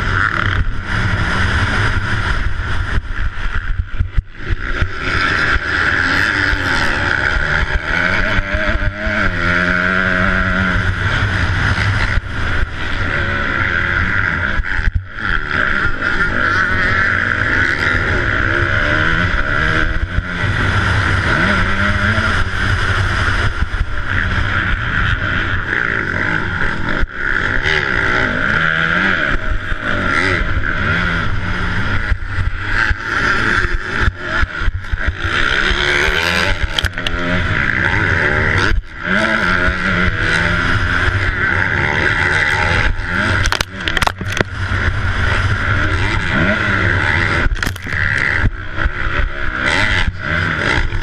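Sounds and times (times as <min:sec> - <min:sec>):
motocross bike engine revving: 0:00.0 - 0:51.0.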